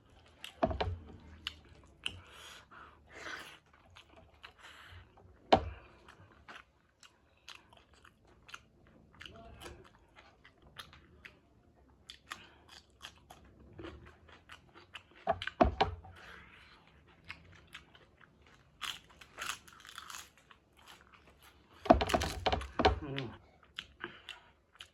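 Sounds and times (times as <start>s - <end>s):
person chewing and crunching food: 0.0s - 24.9s.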